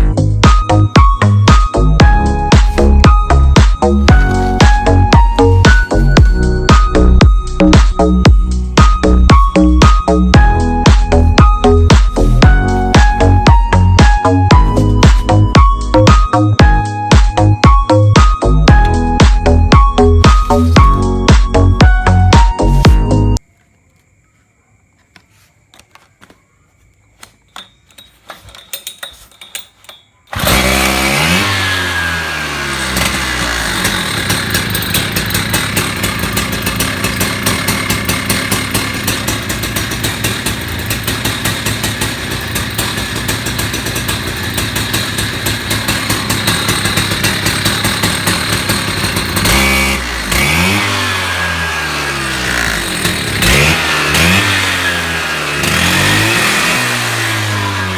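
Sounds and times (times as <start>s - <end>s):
cut-off saw engine revving: 1.2s - 16.5s, 18.4s - 23.4s, 30.3s - 57.9s.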